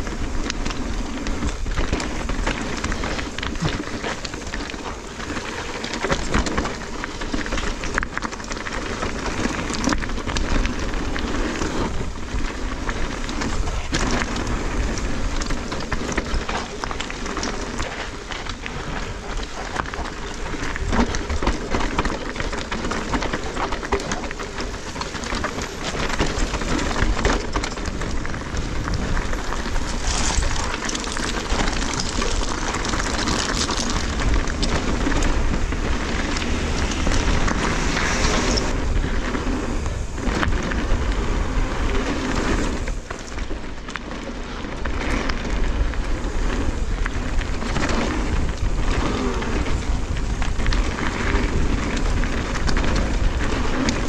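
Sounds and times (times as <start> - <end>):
bike clattering: 0.0 - 54.0
tyres crunching over stones: 0.0 - 54.0.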